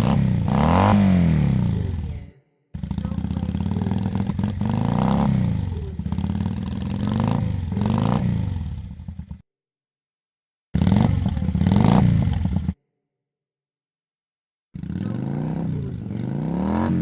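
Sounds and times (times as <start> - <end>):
motorcycle engine revving: 0.0 - 9.4, 10.8 - 12.8, 14.8 - 17.0.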